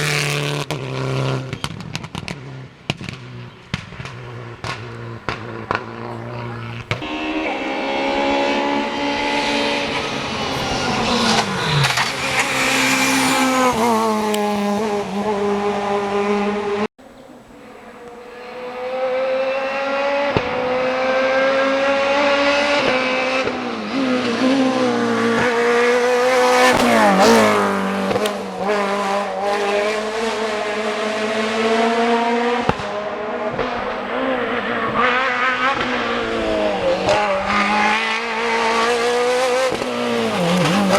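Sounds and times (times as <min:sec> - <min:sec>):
rally car engine revving: 0:00.0 - 0:16.9, 0:17.6 - 0:40.9.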